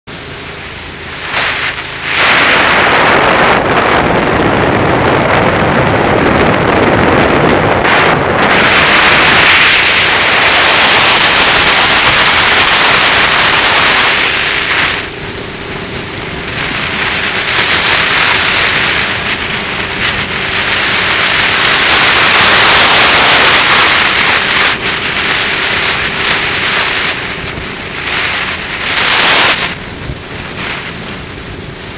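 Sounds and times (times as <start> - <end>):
wind rush on microphone: 0.1 - 31.9.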